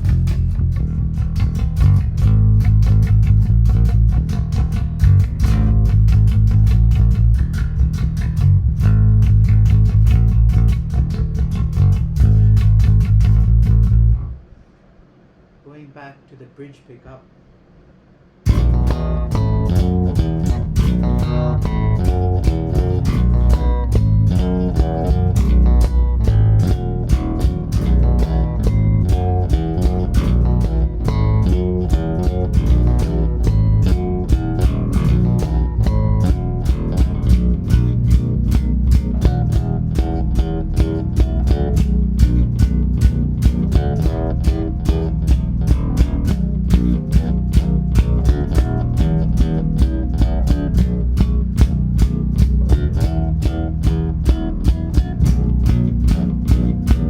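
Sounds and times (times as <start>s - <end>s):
electric bass plucked notes: 0.0s - 14.4s, 18.4s - 57.0s.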